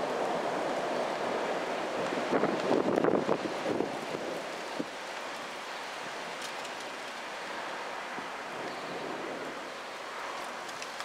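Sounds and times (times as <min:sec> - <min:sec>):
rain shower hissing: 0:00.0 - 0:11.0
wind: 0:00.0 - 0:11.0.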